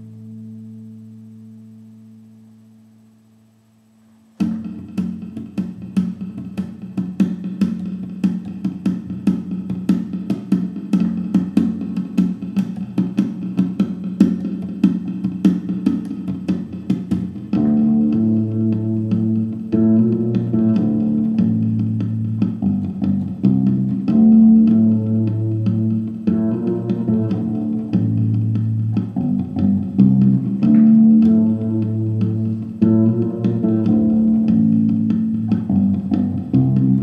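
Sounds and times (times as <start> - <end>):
fretless bass rhythmic strikes: 0.0 - 37.0
sustained bass notes: 0.0 - 37.0.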